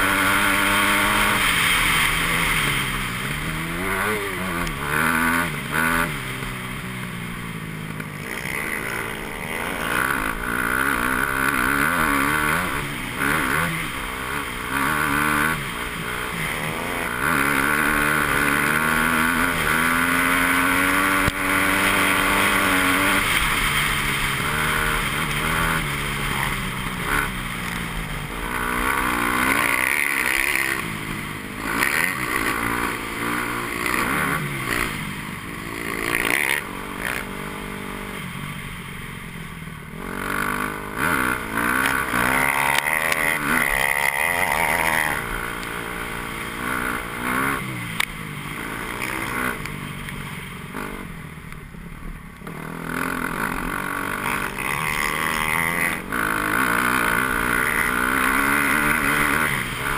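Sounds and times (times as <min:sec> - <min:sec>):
dirt bike engine revving: 0:00.0 - 0:51.3, 0:52.4 - 0:59.9.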